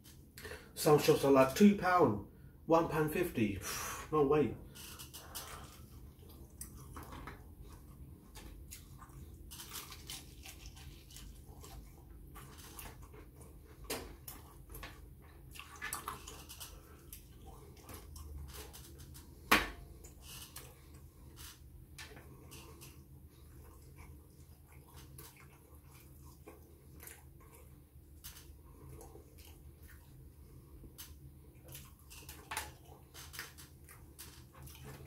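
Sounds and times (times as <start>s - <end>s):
person chewing fried chicken: 4.9s - 35.0s.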